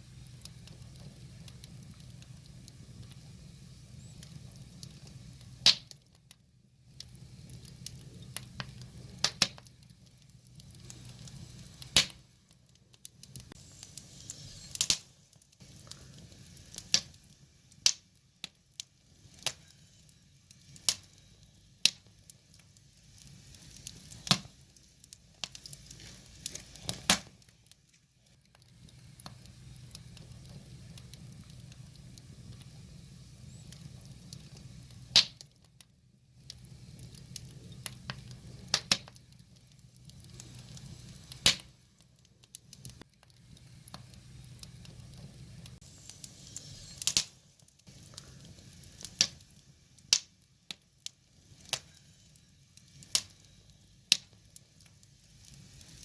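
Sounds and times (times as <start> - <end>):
soft fire hiss: 0.0 - 56.0
wood fire crackling and popping: 0.0 - 56.0.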